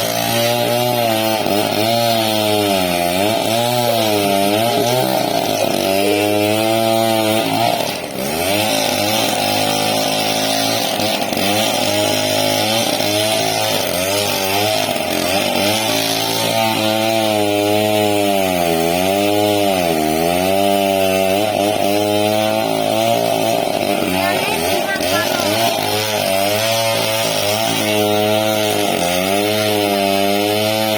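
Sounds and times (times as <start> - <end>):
chainsaw cutting log: 0.0 - 30.9.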